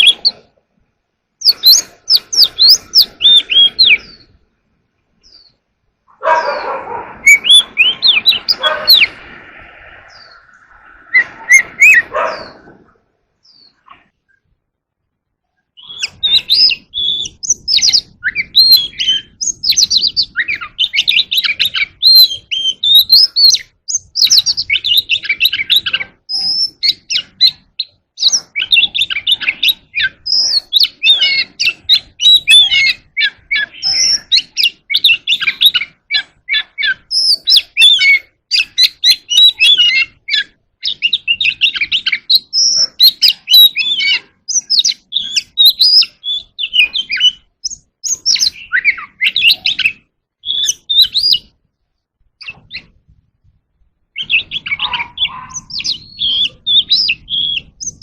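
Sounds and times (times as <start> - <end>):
bird singing whistles and chirps: 0.0 - 0.4, 1.4 - 4.4, 6.4 - 12.7, 13.4 - 14.4, 15.7 - 51.6, 52.4 - 53.0, 54.1 - 58.0.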